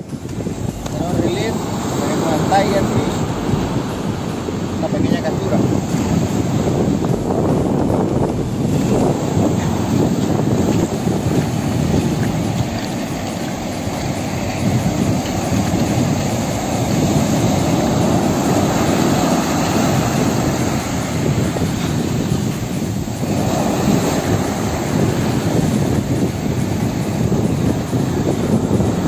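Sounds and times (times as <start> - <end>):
surf breaking and washing: 0.0 - 29.0
wind buffeting microphone: 0.0 - 29.0.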